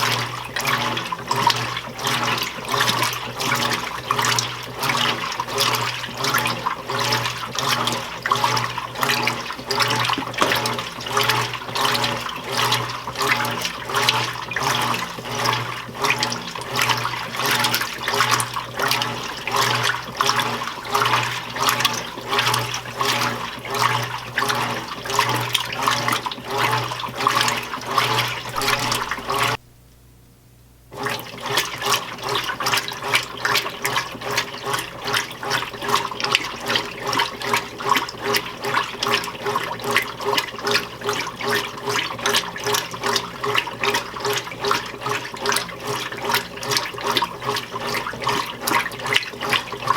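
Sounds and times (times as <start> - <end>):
washing machine agitator churning water: 0.0 - 29.6, 30.9 - 49.9
washing machine motor hum: 0.0 - 29.8, 30.7 - 49.9.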